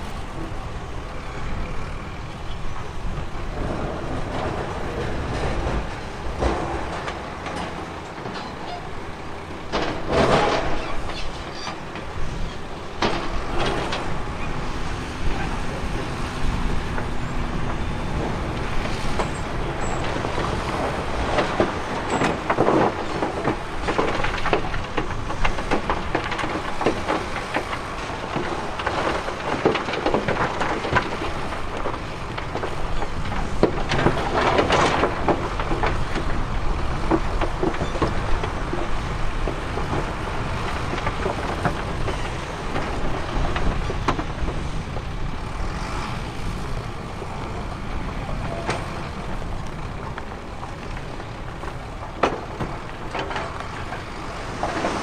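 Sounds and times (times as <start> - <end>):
diesel machinery engine: 0.0 - 55.0.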